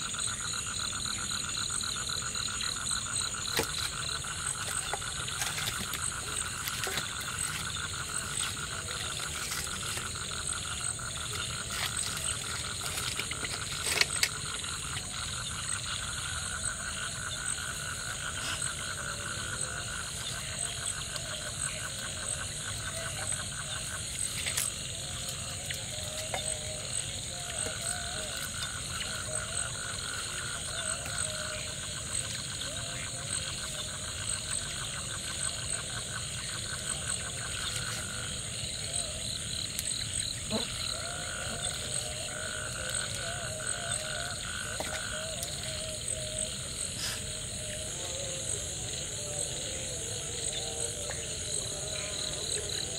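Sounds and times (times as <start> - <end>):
frogs pulsing call: 0.0 - 52.9.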